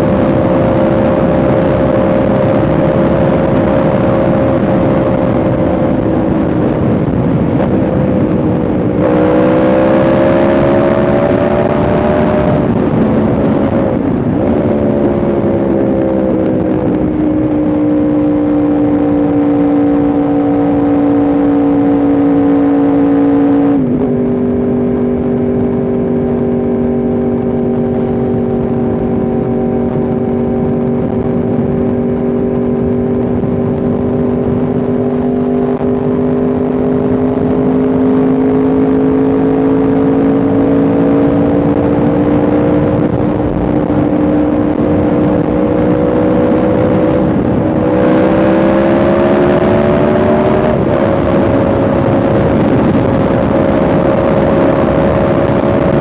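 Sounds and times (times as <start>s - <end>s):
motorcycle engine and exhaust: 0.0s - 56.0s
wind noise: 0.0s - 56.0s.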